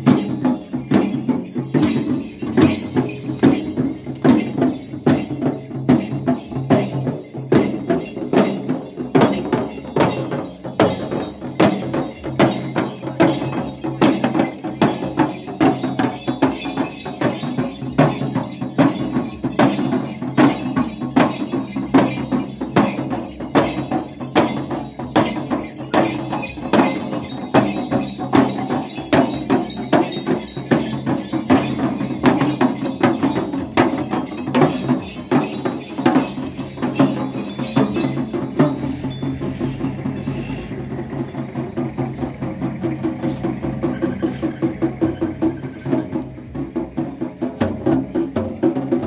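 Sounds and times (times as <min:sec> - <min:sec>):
frame drums beaten with sticks: 0:00.0 - 0:49.0
metallic jingling: 0:00.0 - 0:49.0.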